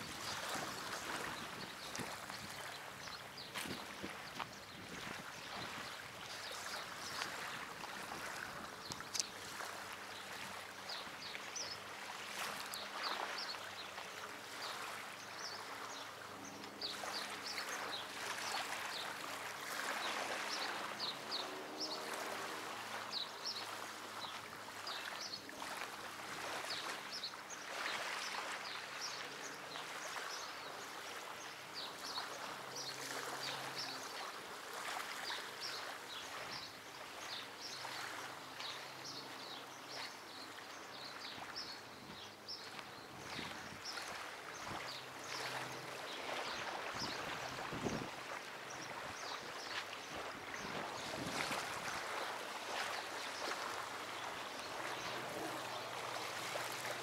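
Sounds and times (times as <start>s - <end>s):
water lapping: 0.0s - 57.0s.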